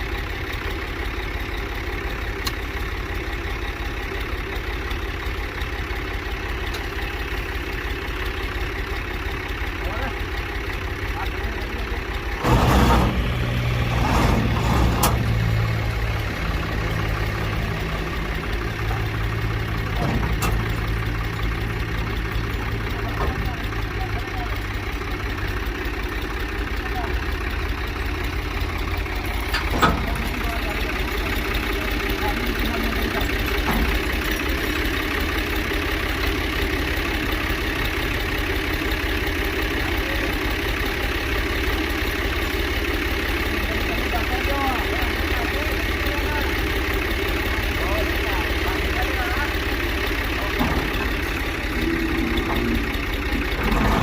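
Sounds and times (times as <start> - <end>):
tractor diesel engine under load: 0.0 - 54.0
wheat thresher running: 0.0 - 54.0.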